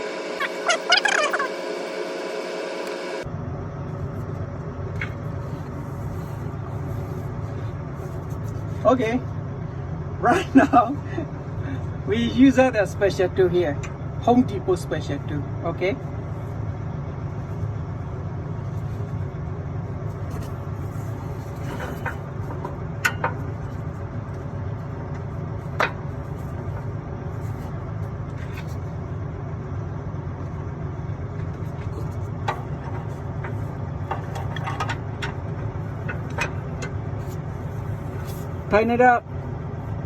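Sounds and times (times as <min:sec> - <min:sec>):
engine humming: 0:00.0 - 0:40.0.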